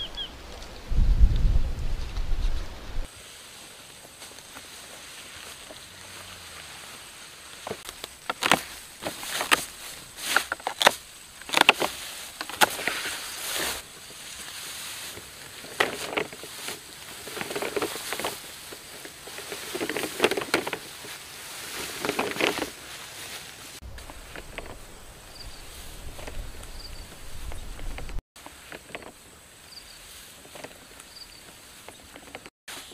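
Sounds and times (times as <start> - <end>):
grass swishing from footsteps: 0.3 - 32.9.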